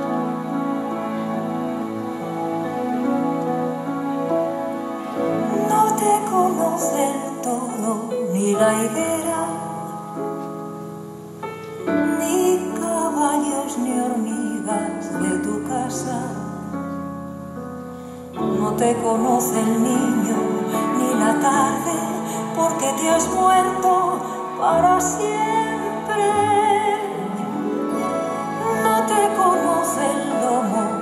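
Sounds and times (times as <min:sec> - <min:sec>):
instrumental music with sustained notes: 0:00.0 - 0:31.0.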